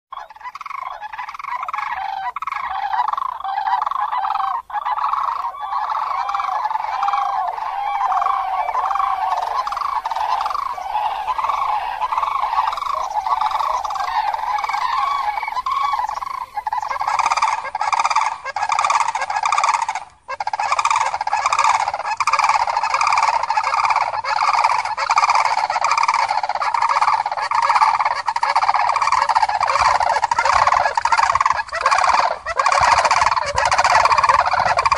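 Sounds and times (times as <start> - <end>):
flock of cranes calling: 0.1 - 34.9.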